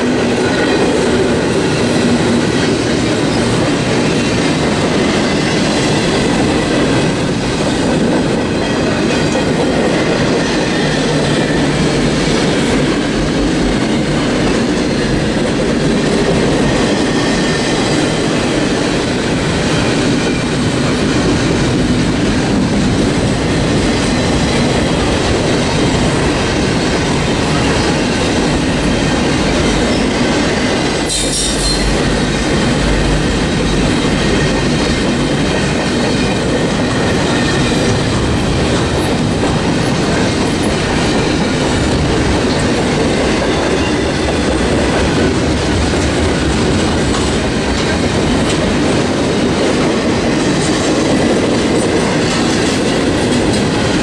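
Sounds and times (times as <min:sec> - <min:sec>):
train cars rattling: 0:00.0 - 0:54.0
train wheels on rails: 0:00.0 - 0:54.0.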